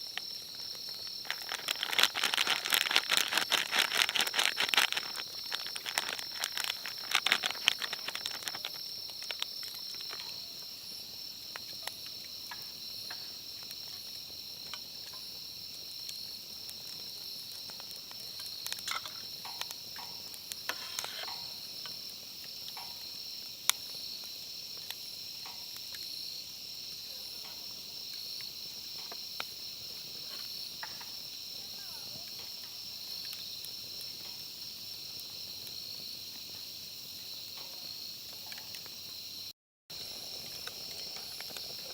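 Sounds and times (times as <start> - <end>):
insects trilling: 0.0 - 41.9.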